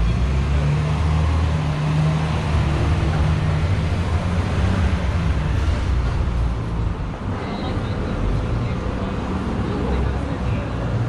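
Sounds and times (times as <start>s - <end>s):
city street noise: 0.0s - 11.0s.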